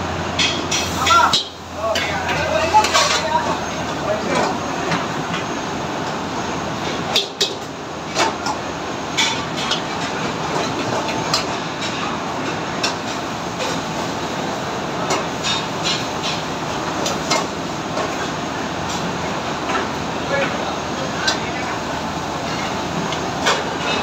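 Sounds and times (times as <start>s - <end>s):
gas range and extractor roar: 0.0s - 24.0s.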